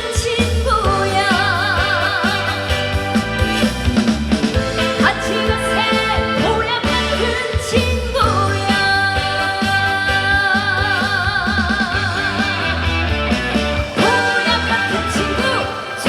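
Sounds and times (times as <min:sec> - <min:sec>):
woman singing: 0:00.0 - 0:03.0, 0:04.9 - 0:12.8, 0:14.0 - 0:16.0
backing track music: 0:00.0 - 0:16.0.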